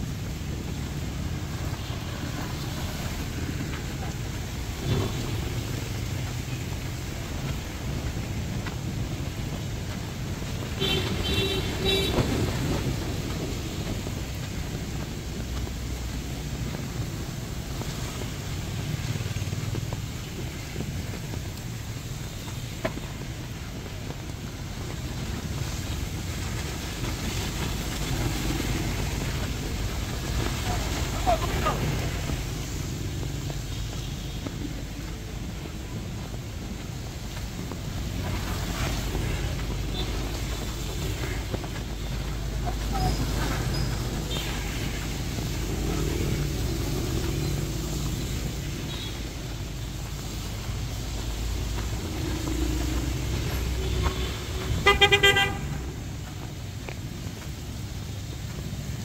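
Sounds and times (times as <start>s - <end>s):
heavy rain falling: 0.0s - 59.0s
street traffic engines: 0.0s - 59.0s.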